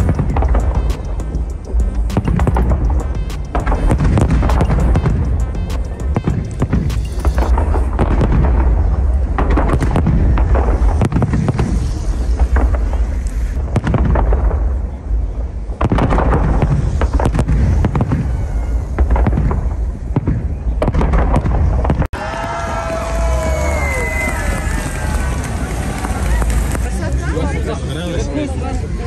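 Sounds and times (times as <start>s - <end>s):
low rumble: 0.0s - 27.4s
fireworks booms and cracks: 0.0s - 27.8s.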